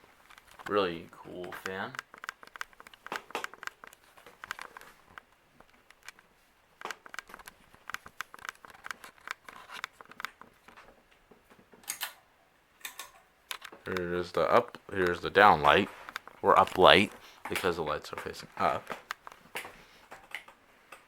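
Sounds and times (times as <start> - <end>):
crinkling rustles: 0.0 - 11.9, 12.8 - 20.6
soft clicks: 0.2 - 10.8, 12.8 - 21.0.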